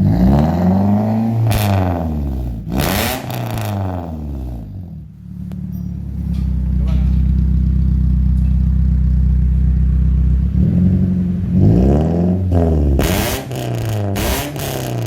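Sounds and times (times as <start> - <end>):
car engine revving: 0.0 - 15.0
car engine idling: 1.0 - 15.0.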